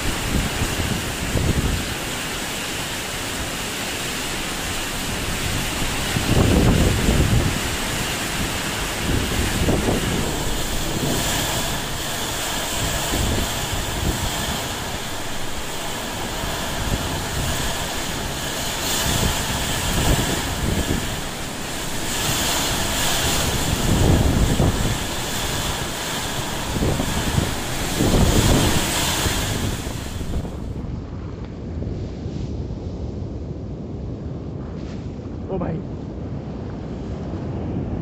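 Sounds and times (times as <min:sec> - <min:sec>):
heavy rain: 0:00.0 - 0:30.9
strong wind gusts: 0:00.0 - 0:38.0.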